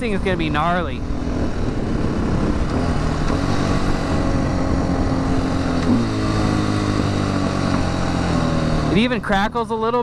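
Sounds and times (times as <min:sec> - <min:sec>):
wind rushing over microphone: 0:00.0 - 0:09.0
motorcycle engine running: 0:00.0 - 0:10.0.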